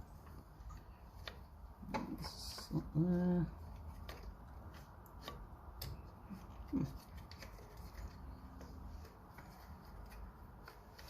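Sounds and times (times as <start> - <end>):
small clicks and taps: 0.1 - 11.0.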